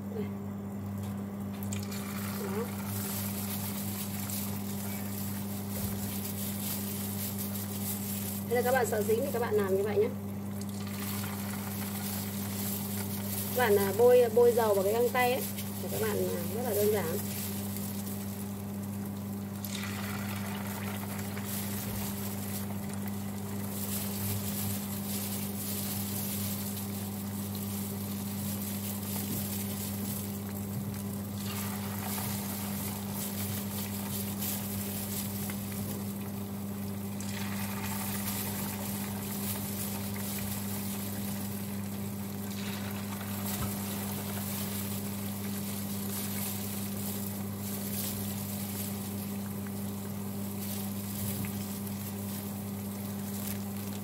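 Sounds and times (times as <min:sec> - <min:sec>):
low electrical hum: 0:00.0 - 0:54.0
oil sizzling and bubbling: 0:00.0 - 0:54.0.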